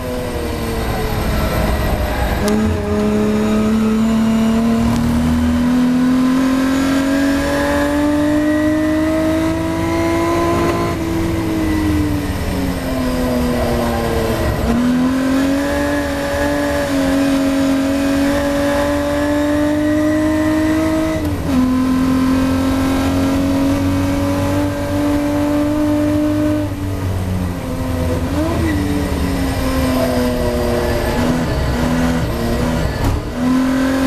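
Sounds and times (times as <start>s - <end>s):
race car engine revving: 0.0s - 34.0s.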